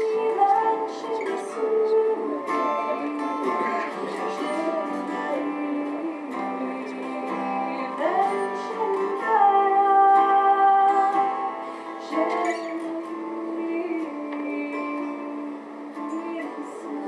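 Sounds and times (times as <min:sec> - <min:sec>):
acoustic guitar: 0:00.0 - 0:17.0
woman singing folk song: 0:00.0 - 0:17.0.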